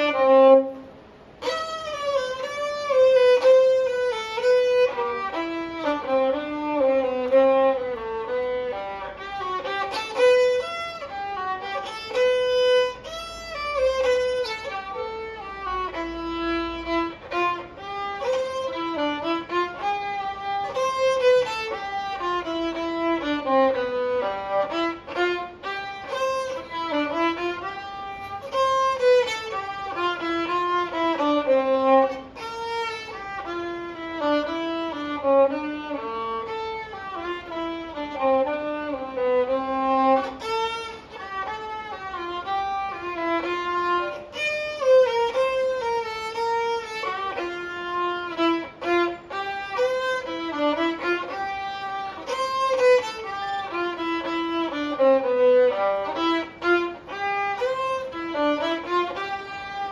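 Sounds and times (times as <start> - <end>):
solo bowed viola melody: 0.0 - 59.9.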